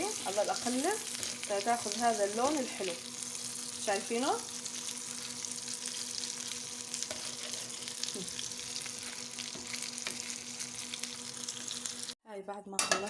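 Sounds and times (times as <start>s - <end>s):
meat sizzling in a pan: 0.0s - 12.2s.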